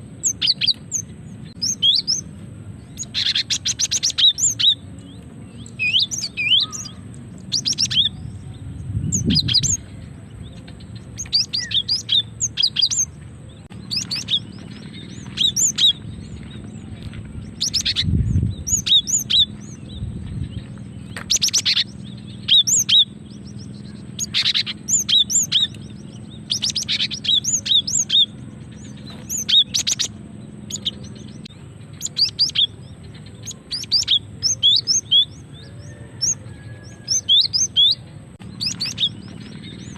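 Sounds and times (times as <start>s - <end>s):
bird high chirping calls: 0.0s - 39.9s.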